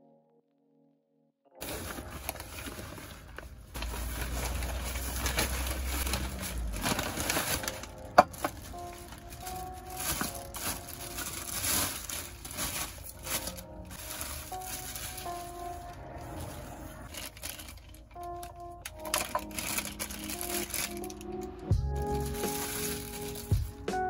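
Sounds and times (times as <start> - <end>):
bubble wrap and bag crinkling: 1.6 - 24.0.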